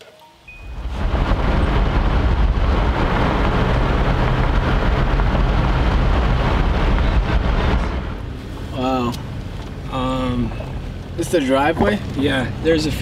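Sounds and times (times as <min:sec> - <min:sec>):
vehicle road and wind noise: 0:00.5 - 0:13.0.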